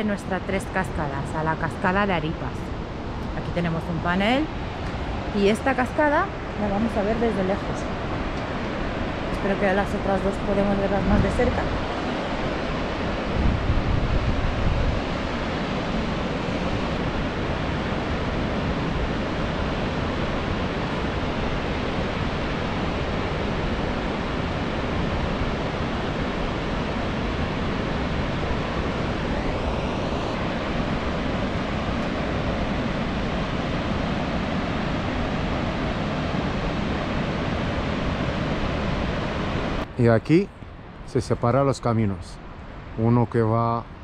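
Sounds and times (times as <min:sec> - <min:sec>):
wind buffeting microphone: 0:00.0 - 0:40.0
distant waterfall rushing: 0:00.0 - 0:44.0.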